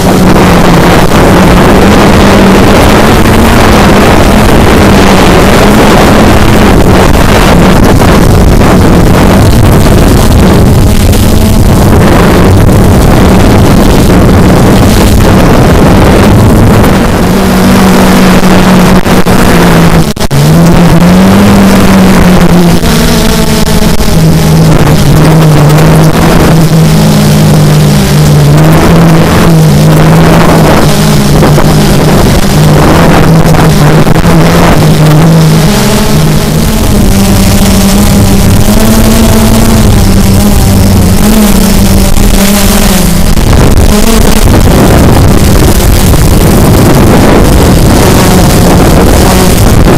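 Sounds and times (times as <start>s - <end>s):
drone propellers buzzing: 0.0s - 49.9s
wind rush: 0.0s - 49.9s.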